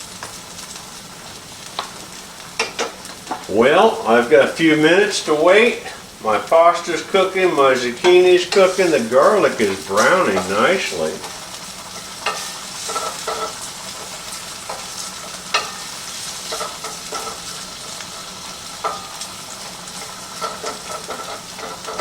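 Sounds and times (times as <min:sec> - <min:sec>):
utensil stirring in a pan: 0:00.0 - 0:22.0
vegetables sizzling in oil: 0:00.0 - 0:22.0.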